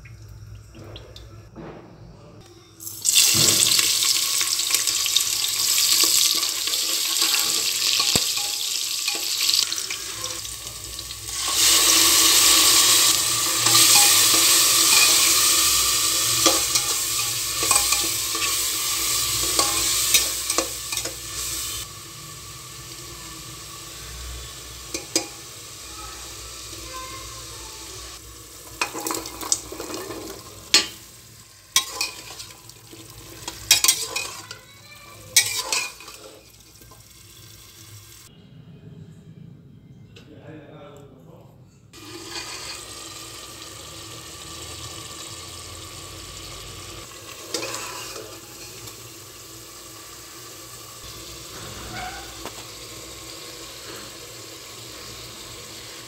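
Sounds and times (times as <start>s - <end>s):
onions sizzling in hot oil: 2.8s - 38.3s, 42.0s - 56.0s.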